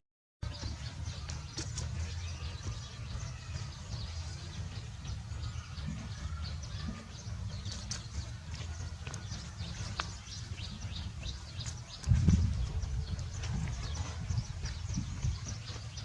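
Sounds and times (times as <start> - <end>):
birds chirping and calling: 0.4 - 16.0
steady low rumble: 0.4 - 16.0.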